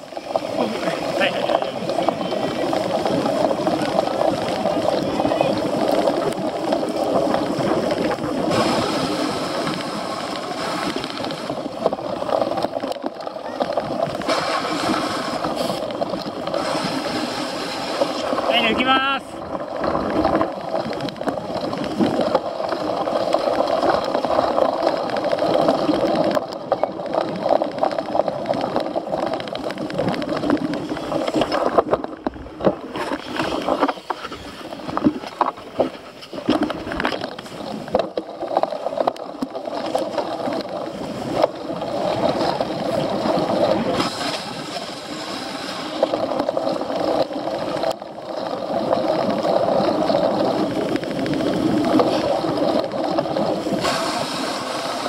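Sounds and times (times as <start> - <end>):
tyres and drivetrain rushing: 0.0 - 55.0.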